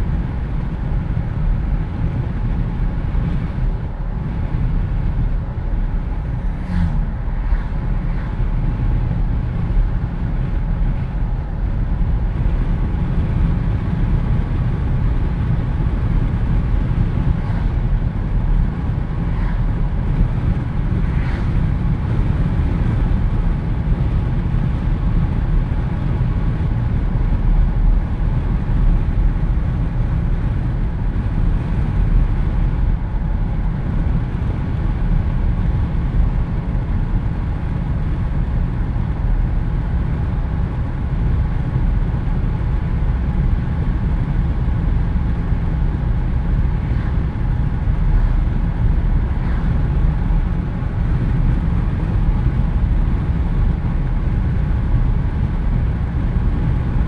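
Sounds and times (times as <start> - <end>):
road noise: 0.0 - 57.0
wind buffeting through cabin: 0.0 - 57.0.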